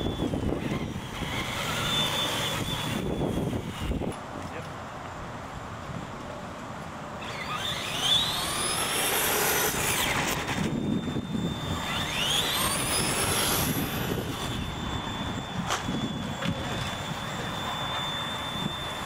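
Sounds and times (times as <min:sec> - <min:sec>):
electric toy truck motors whining: 0:00.0 - 0:04.3, 0:07.1 - 0:19.0.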